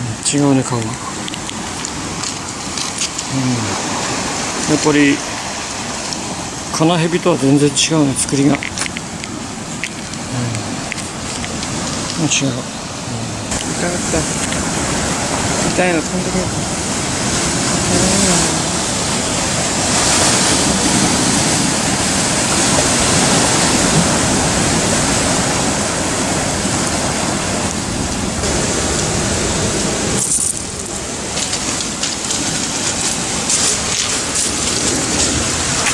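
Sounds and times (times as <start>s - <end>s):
sea surf washing on shore: 0.0s - 35.9s.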